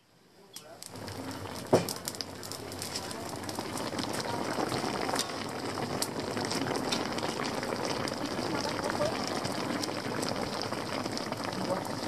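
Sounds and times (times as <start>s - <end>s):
broth bubbling in a wok: 0.1s - 12.0s
wood fire crackling: 0.2s - 12.0s.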